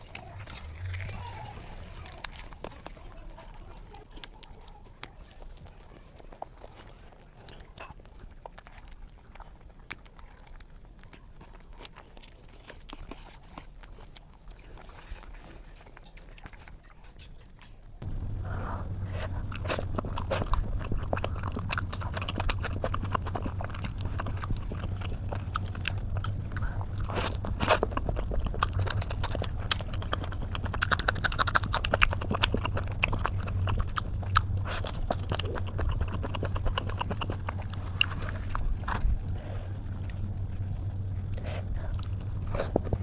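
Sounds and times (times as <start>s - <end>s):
steady low hum: 0.0s - 10.3s, 17.8s - 43.0s
person chewing food: 0.0s - 43.0s.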